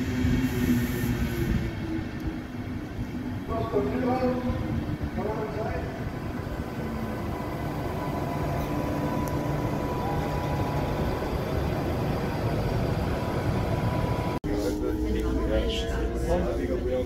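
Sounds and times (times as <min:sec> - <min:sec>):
train wheels rumbling: 0:00.0 - 0:14.4.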